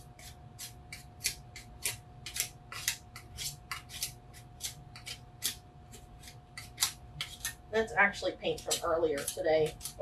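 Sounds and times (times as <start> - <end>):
metal knife scraping paint: 0.0 - 5.6, 6.2 - 7.6, 8.4 - 10.0.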